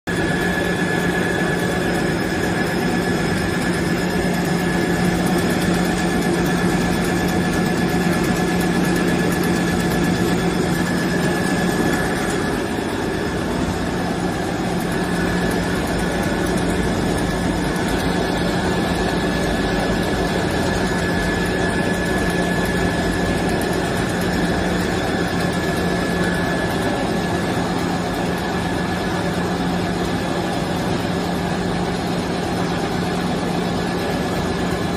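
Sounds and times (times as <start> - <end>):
machine humming with high whine: 0.1 - 34.9.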